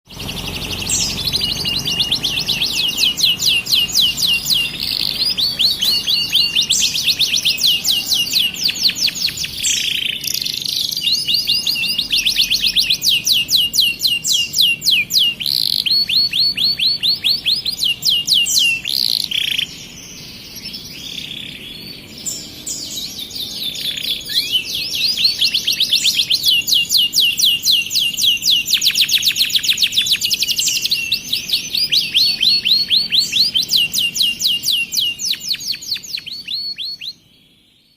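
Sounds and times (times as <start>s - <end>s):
canary singing fast trills: 0.1s - 37.9s.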